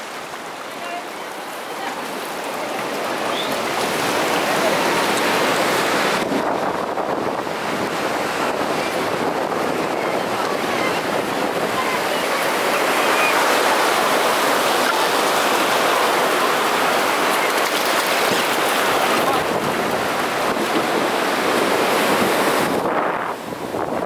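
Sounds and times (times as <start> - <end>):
surf breaking on beach: 0.0 - 24.0
wind buffeting microphone: 2.3 - 14.6, 15.2 - 24.0.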